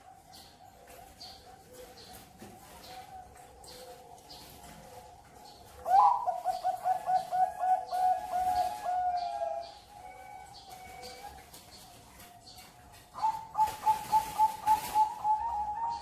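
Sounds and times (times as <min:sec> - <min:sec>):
faint dove cooing: 0:00.0 - 0:11.6, 0:13.1 - 0:16.0
dove cooing song: 0:00.0 - 0:16.0.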